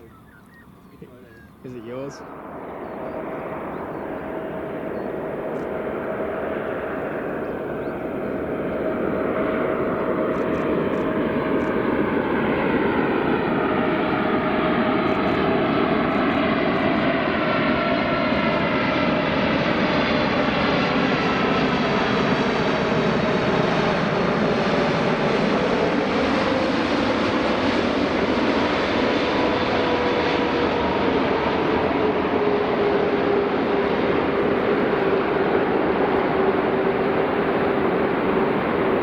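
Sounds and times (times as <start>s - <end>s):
jet engines roaring with whine: 0.0s - 39.0s.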